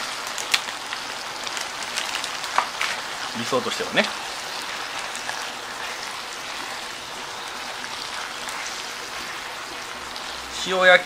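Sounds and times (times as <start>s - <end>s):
faint crackles: 0.0s - 10.5s
noodles and pork sizzling in a pan: 0.0s - 11.0s.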